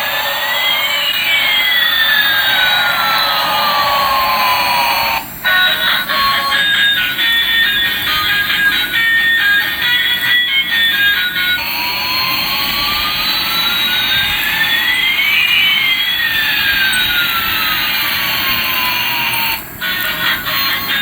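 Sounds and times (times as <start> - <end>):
jet engine hiss and whine: 0.0 - 21.0.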